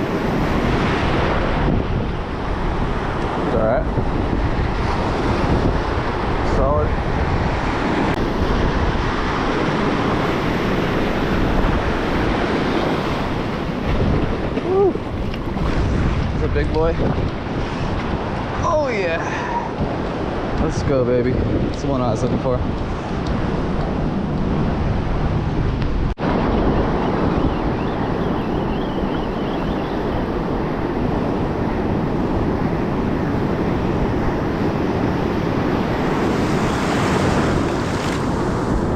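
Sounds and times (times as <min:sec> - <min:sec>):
ocean surf washing ashore: 0:00.0 - 0:38.9
wind buffeting microphone: 0:00.0 - 0:38.9.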